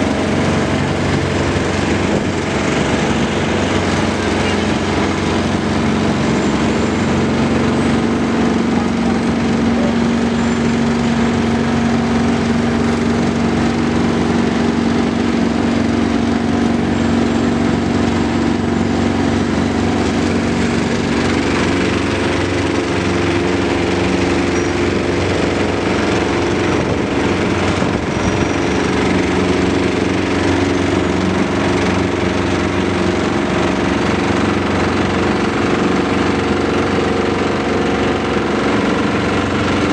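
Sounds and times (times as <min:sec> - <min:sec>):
heavy machinery engines rattling: 0:00.0 - 0:39.9.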